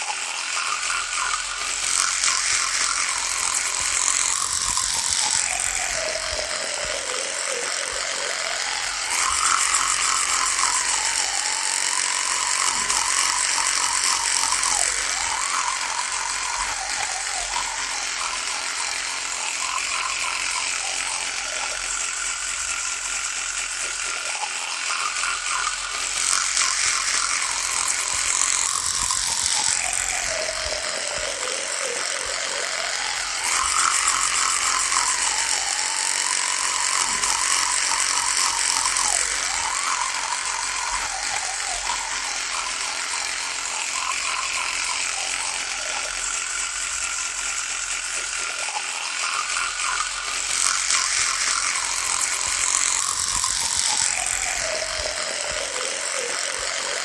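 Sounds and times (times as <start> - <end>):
electric toothbrush buzzing: 0.0 - 57.0.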